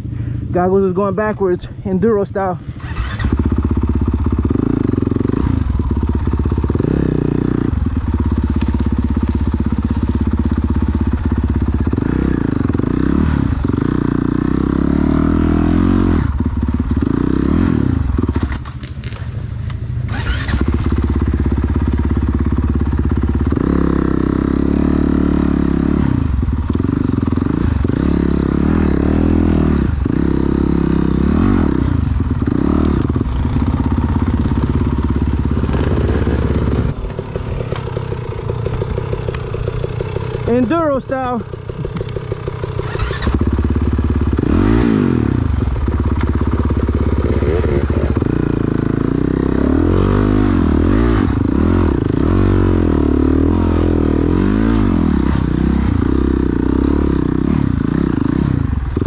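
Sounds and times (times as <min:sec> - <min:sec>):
dirt bike engine revving: 0:02.1 - 0:19.4, 0:20.0 - 0:59.0.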